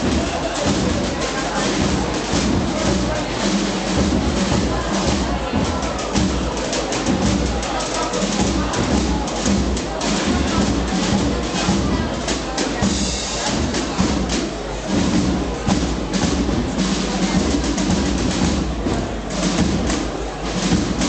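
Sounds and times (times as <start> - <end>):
drums struck in rhythm: 0.0 - 21.0
marching band playing: 0.0 - 21.0.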